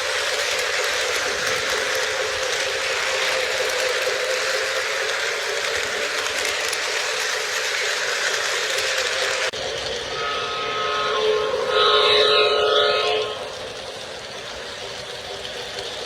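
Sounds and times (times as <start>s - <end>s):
model train rolling on track: 0.0s - 16.0s.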